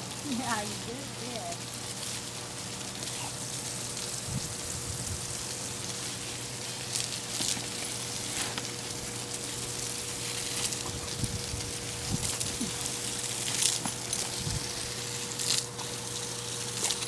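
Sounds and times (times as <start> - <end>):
garden hose spraying water: 0.0 - 17.0.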